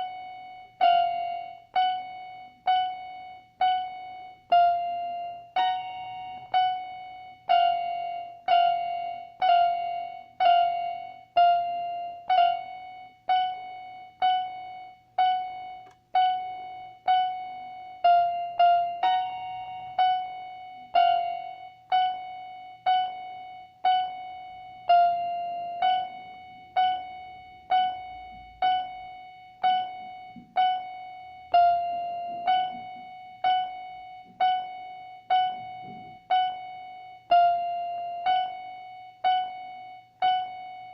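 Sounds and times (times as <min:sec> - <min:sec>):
electronic keyboard piano notes: 0:00.0 - 0:40.9.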